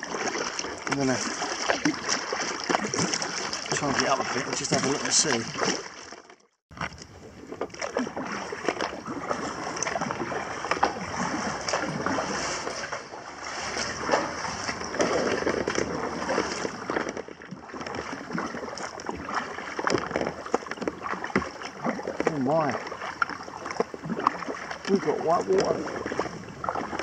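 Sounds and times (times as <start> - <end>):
paddle splashes: 0.0 - 27.0.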